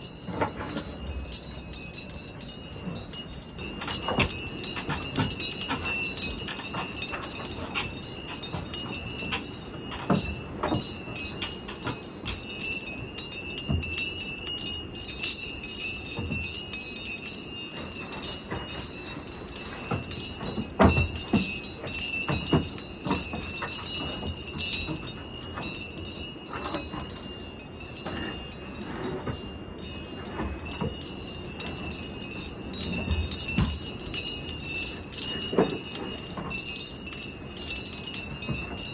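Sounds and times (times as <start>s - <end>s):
low rumble of wind: 0.0s - 38.9s
metal wind chimes ringing: 0.0s - 38.9s.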